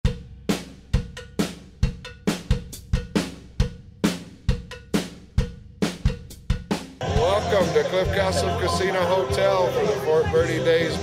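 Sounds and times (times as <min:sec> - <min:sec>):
drum kit playing steady beat: 0:00.0 - 0:11.0.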